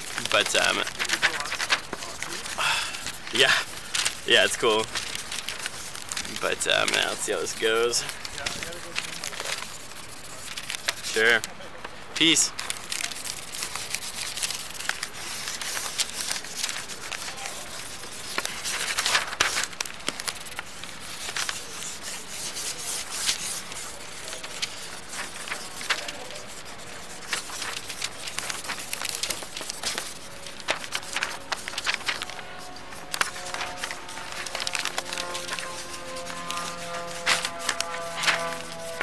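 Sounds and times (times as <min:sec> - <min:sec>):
drawing tool scratching paper: 0:00.0 - 0:11.5, 0:12.2 - 0:39.0.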